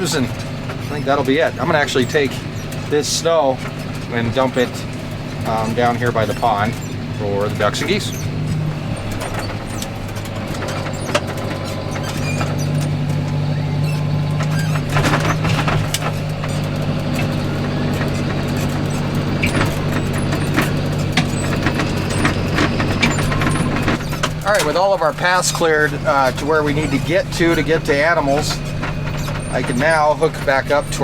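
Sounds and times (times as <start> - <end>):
clanks and knocks: 0.0 - 31.0
tractor engine running: 0.0 - 31.0.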